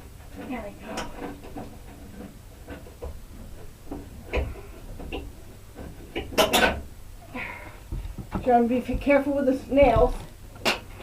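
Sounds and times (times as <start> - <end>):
knocks and scrapes: 0.2 - 6.9, 7.9 - 11.0.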